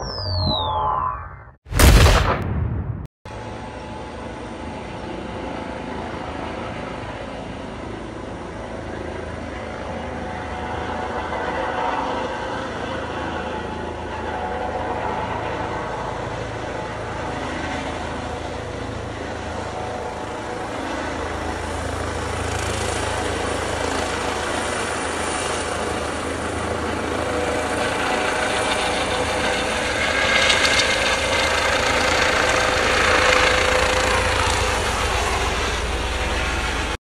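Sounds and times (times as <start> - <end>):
helicopter rotor and turbine: 0.0 - 2.1, 3.3 - 37.0
turbine whine: 0.0 - 2.4, 3.3 - 37.0.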